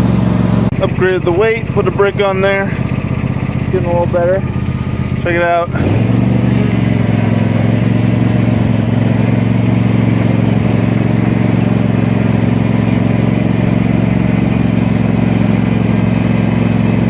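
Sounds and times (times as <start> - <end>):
riding lawn mower engine: 0.0 - 17.0.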